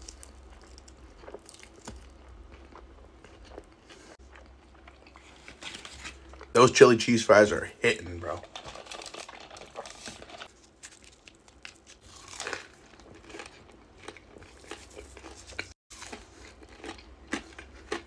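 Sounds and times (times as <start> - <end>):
person chewing food: 0.0 - 6.5, 8.4 - 18.0.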